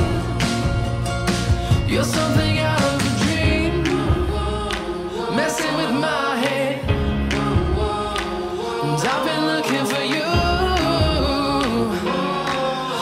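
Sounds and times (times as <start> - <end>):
person singing with accompaniment: 0.0 - 13.0.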